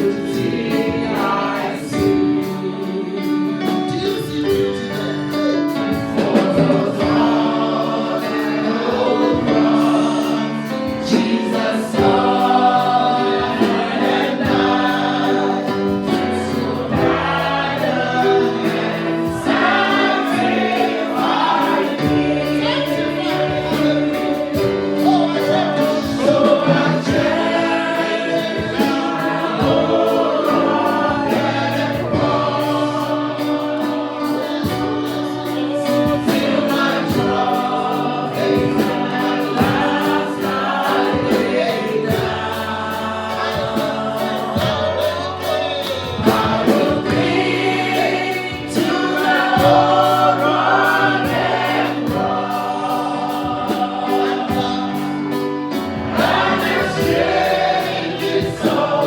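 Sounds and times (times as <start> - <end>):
choir singing gospel song: 0.0 - 59.0.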